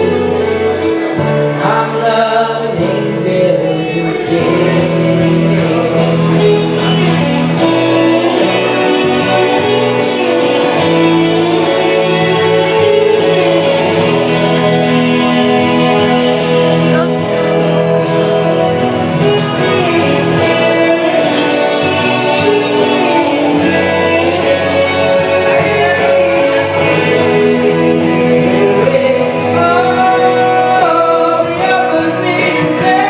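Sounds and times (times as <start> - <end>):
guitar chords: 0.0 - 33.0
person singing long notes: 0.0 - 33.0
slow pop ballad: 0.0 - 33.0.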